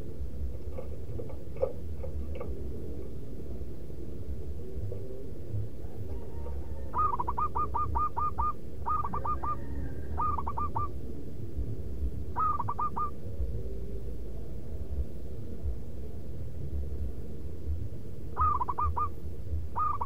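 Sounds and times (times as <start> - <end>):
dove cooing: 0.0 - 15.9, 18.3 - 20.0.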